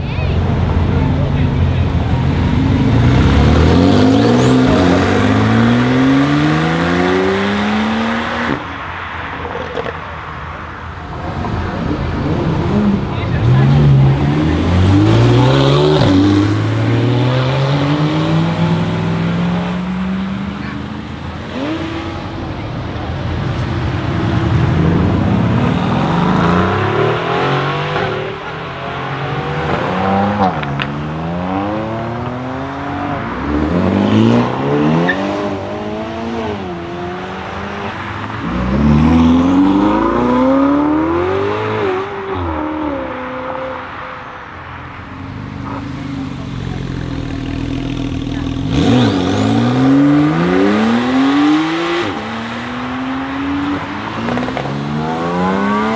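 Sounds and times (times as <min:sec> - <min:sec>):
sports car engines accelerating: 0:00.0 - 0:55.9.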